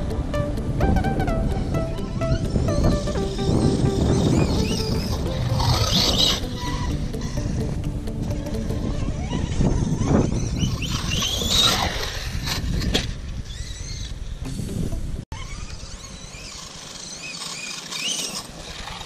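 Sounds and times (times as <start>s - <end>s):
electric motor whine: 0.0s - 14.6s, 15.3s - 19.0s
wind on microphone: 0.0s - 16.7s.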